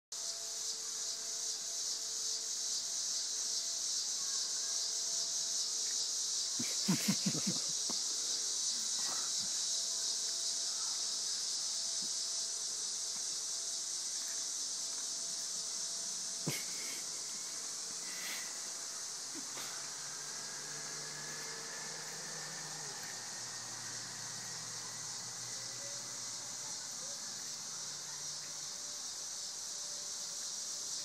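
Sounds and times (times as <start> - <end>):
high-pitched insect chorus: 0.1 - 31.0.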